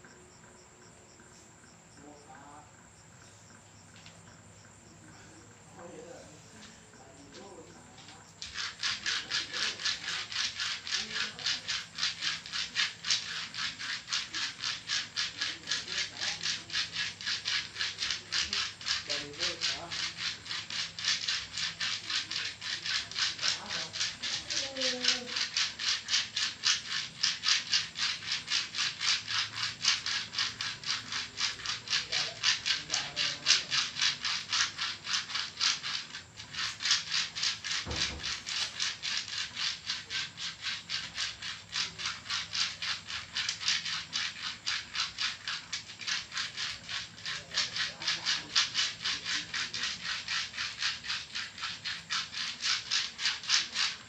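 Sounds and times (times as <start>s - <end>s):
seeds rasping over skin: 1.4s - 54.0s.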